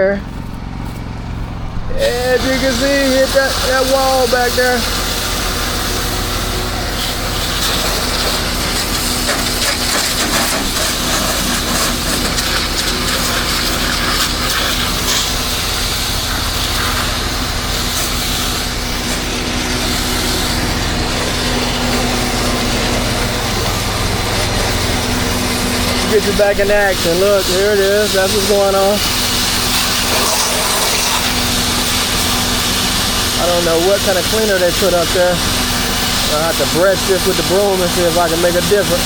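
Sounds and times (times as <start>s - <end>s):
pressure washer engine hum: 0.0s - 39.0s
water spray hissing: 1.4s - 39.0s.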